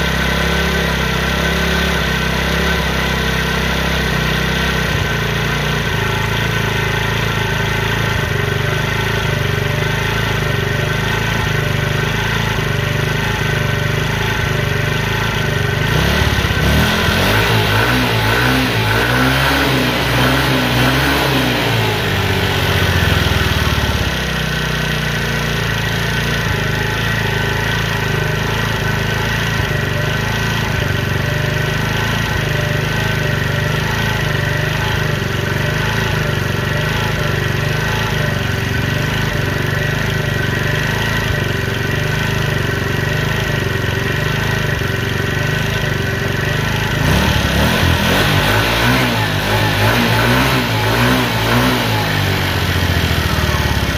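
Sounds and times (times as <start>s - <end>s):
scooter engine running: 0.0s - 53.9s.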